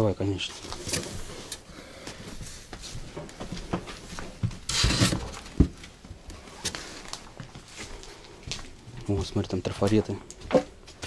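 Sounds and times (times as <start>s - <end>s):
light knocks and shuffling: 0.2s - 11.0s.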